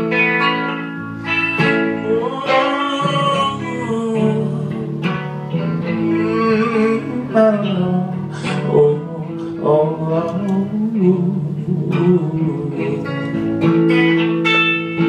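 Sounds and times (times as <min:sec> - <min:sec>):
electric guitar folk-rock: 0:00.0 - 0:15.0.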